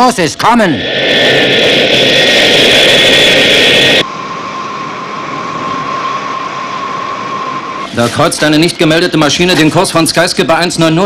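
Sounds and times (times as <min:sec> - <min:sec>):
jet engines whining: 0:00.0 - 0:11.0
steady hum with held tone: 0:00.0 - 0:11.0.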